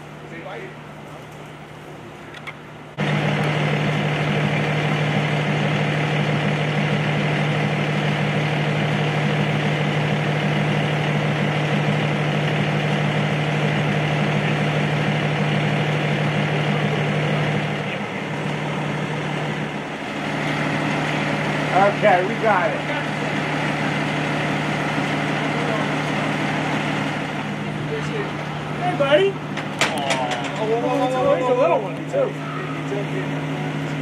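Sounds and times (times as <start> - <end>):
diesel truck engine droning: 2.7 - 34.0.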